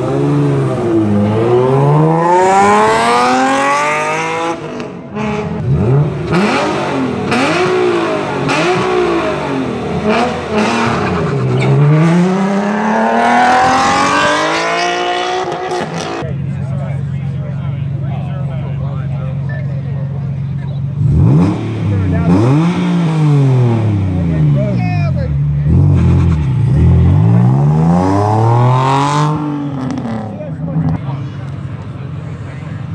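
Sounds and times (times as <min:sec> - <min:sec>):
car engines revving hard: 0:00.0 - 0:32.9.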